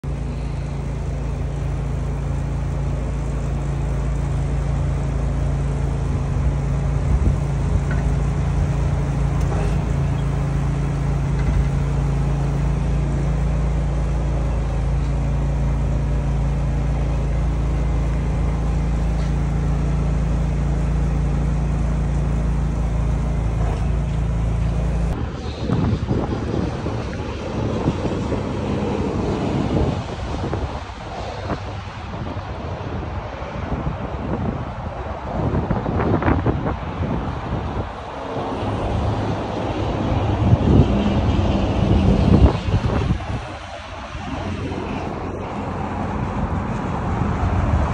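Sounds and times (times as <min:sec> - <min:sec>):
low engine drone: 0:00.0 - 0:47.9
wind buffeting microphone: 0:00.8 - 0:47.9.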